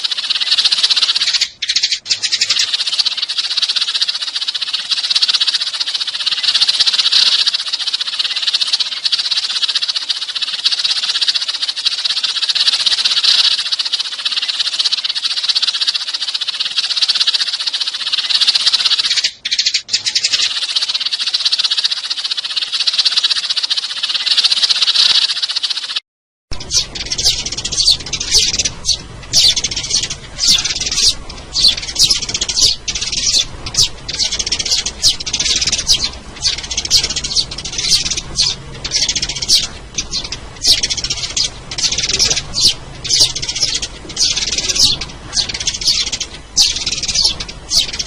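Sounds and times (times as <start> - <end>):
sparrows chirping: 0.0 - 48.0.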